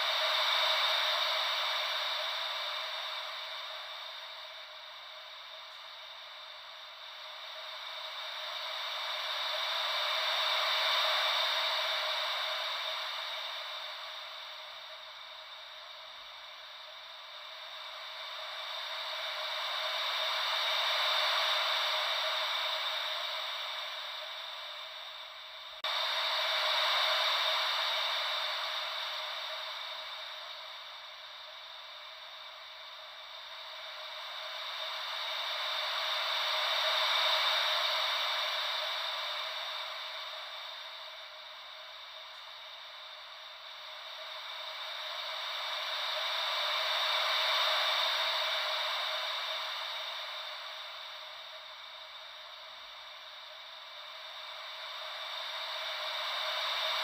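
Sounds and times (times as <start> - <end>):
ocean wave white noise: 0.0 - 57.0.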